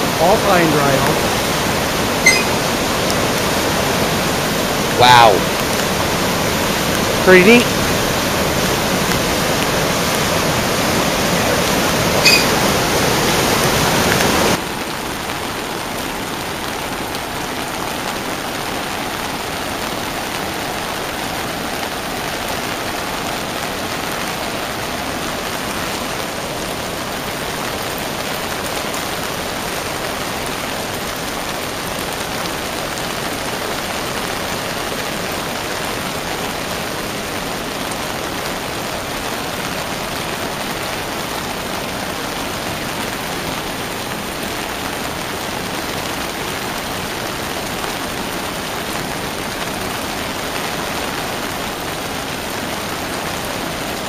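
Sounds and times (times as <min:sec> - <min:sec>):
heavy rain: 0:00.0 - 0:54.0
rushing floodwater: 0:00.0 - 0:54.0.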